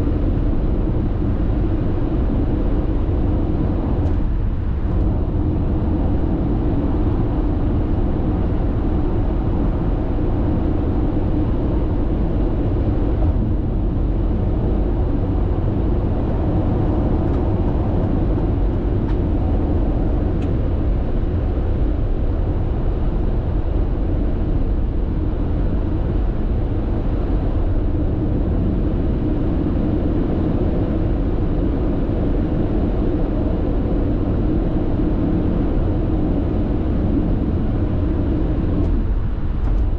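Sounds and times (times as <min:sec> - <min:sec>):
road and tyre noise in car: 0:00.0 - 0:39.9.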